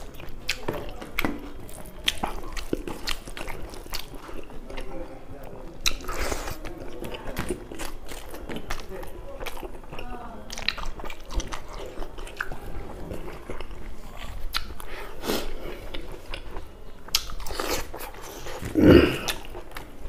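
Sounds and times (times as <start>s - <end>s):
man eating with wet chewing: 0.0s - 20.0s.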